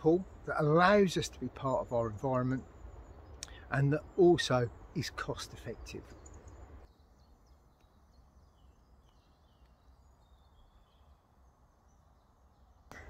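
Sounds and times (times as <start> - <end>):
faint bird chirps: 1.3 - 13.0.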